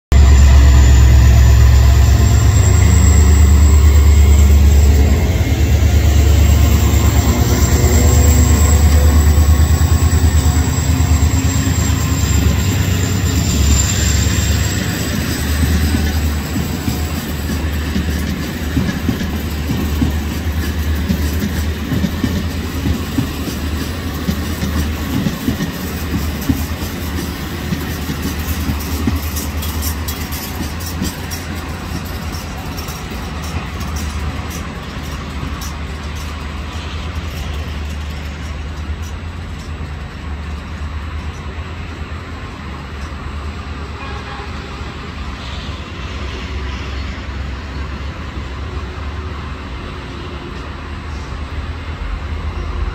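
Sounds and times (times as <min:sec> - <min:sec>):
diesel locomotive passing: 0:00.1 - 0:52.9
train wheels clicking over rail joints: 0:00.2 - 0:43.8.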